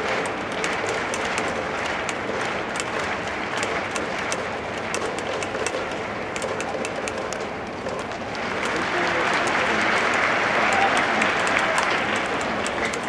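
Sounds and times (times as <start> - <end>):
crowd noise: 0.0 - 13.0
sharp irregular claps: 0.0 - 13.0.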